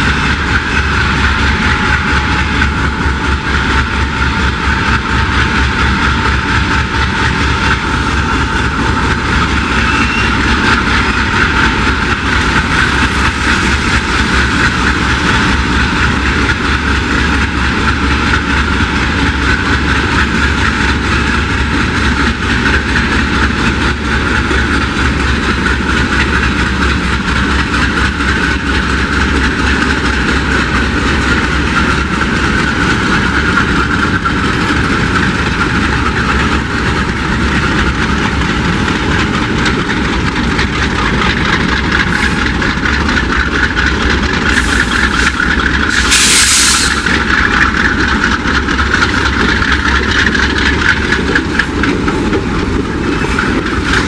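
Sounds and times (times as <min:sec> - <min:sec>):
diesel locomotives rumbling: 0:00.0 - 0:54.0.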